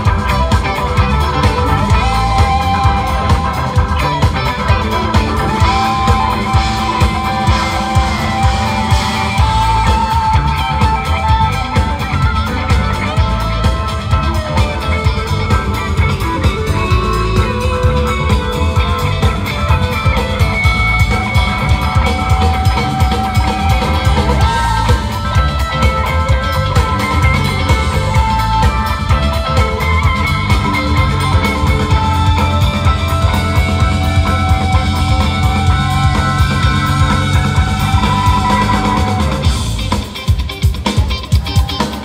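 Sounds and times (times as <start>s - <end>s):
electric guitar lead lines: 0.0s - 42.0s
rock band playing: 0.0s - 42.0s.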